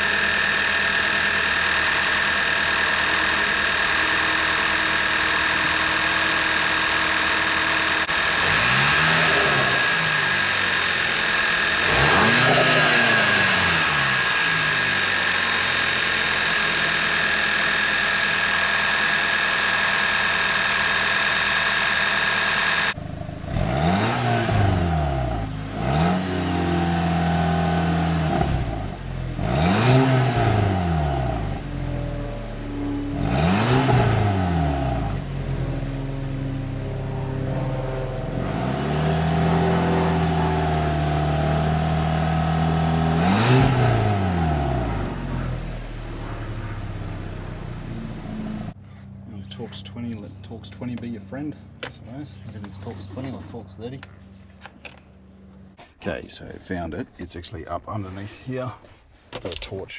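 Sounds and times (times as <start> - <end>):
car engine revving from idle: 0.0 - 48.8.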